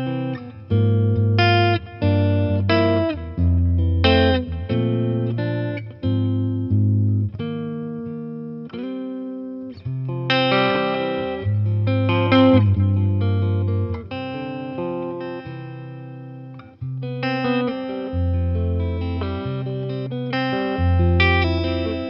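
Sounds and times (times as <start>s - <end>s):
solo electric guitar: 0.0s - 22.0s.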